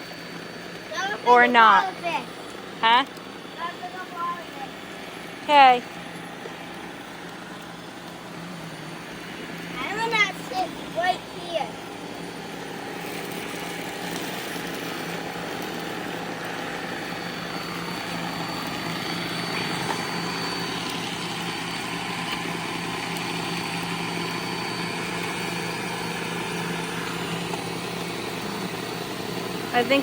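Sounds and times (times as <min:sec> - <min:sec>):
robot vacuums whirring: 0:00.1 - 0:30.0.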